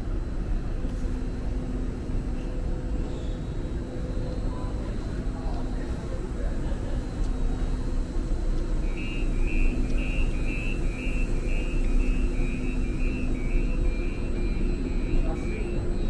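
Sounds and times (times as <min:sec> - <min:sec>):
light-rail train rumbling: 0:00.0 - 0:16.0.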